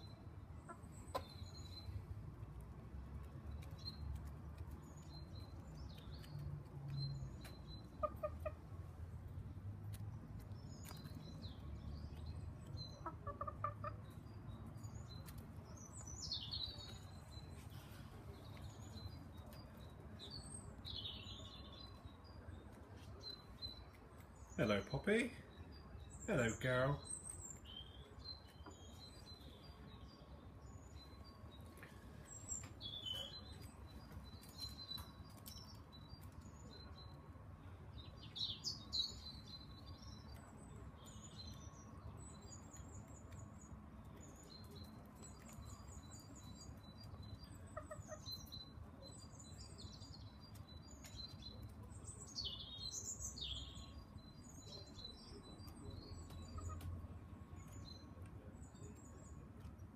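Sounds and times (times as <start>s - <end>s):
faint bird chirping: 0.0s - 2.2s, 10.4s - 59.9s.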